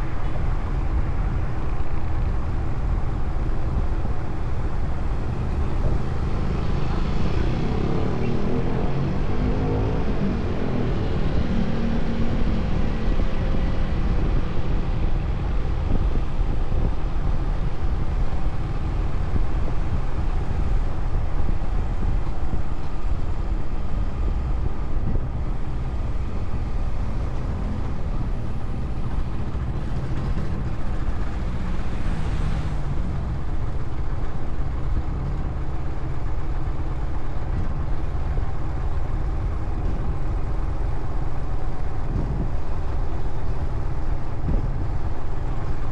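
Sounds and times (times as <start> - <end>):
motorcycle engine and road noise: 0.0 - 45.9.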